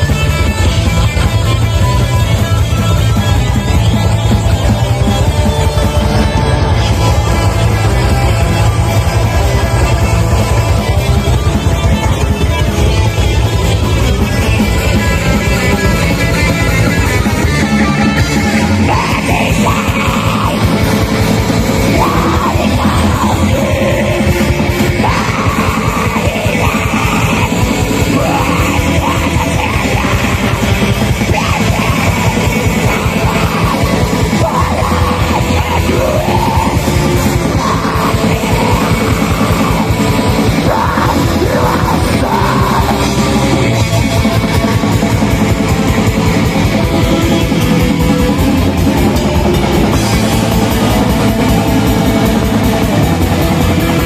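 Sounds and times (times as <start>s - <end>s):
dense drumming: 0.0s - 54.0s
distorted guitars: 0.0s - 54.0s
vocals: 0.0s - 54.0s.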